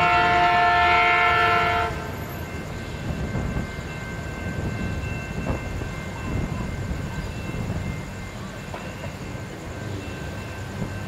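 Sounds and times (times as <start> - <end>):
diesel train rumbling on rails: 0.0 - 11.0.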